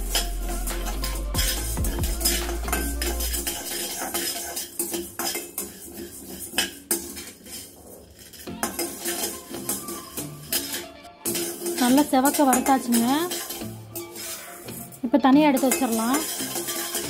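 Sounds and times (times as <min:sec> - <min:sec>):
dry grains rattling on metal: 0:00.0 - 0:17.0
metal turner scraping a pan: 0:00.0 - 0:17.0.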